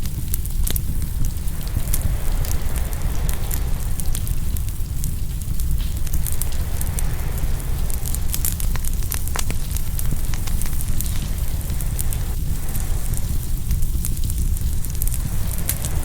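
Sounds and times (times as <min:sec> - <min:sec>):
ocean waves rumbling: 0:00.0 - 0:16.0
wood fire crackling and popping: 0:00.0 - 0:16.0.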